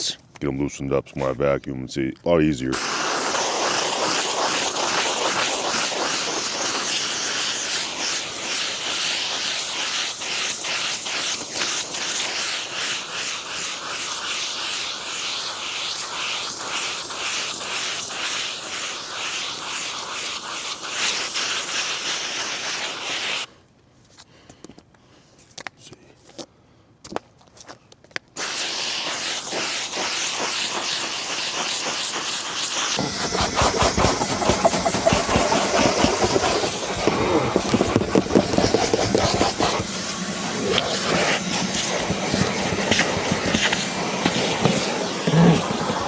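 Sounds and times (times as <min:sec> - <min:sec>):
brush scrubbing floor mats: 0:02.8 - 0:23.5, 0:28.4 - 0:46.0.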